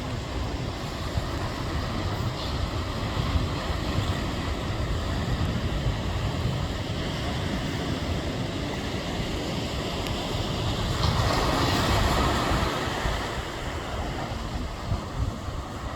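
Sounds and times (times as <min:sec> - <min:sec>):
surf rushing on shore: 0:00.0 - 0:15.9
wind buffeting microphone: 0:00.0 - 0:15.9.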